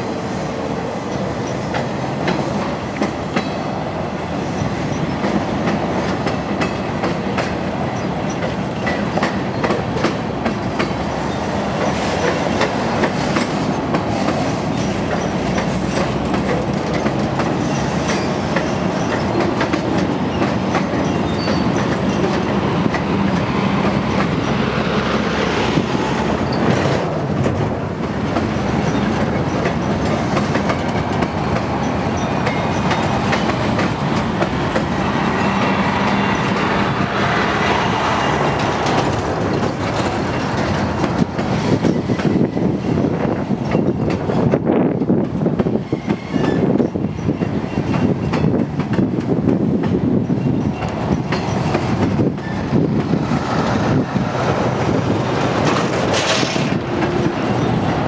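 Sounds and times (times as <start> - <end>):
rumble and rattle of freight cars: 0.0 - 58.0
train wheels clicking over rail joints: 1.0 - 3.6, 4.3 - 58.0.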